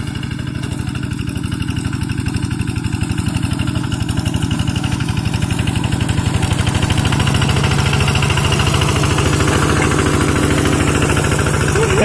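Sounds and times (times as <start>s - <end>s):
diesel engine thudding: 0.0s - 12.0s.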